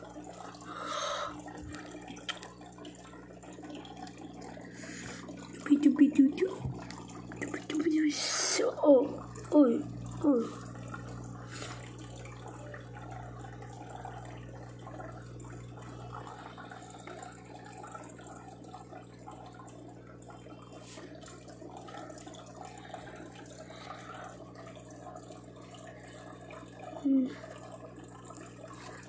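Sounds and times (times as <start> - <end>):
low electrical hum: 0.0 - 29.0
running water trickle: 0.0 - 29.0.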